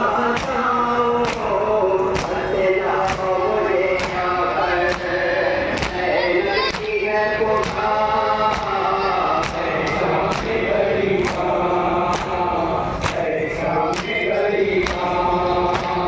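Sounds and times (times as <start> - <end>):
men chanting a lament: 0.0 - 16.0.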